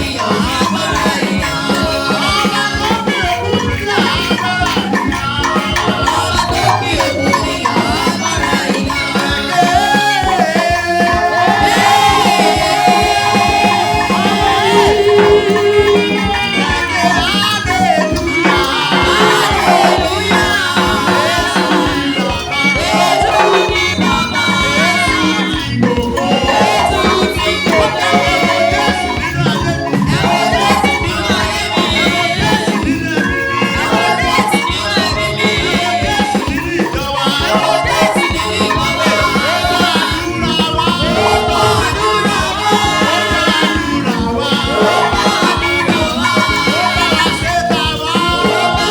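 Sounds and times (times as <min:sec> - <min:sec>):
driving drum beat: 0:00.0 - 0:48.9
voices singing: 0:00.0 - 0:48.9.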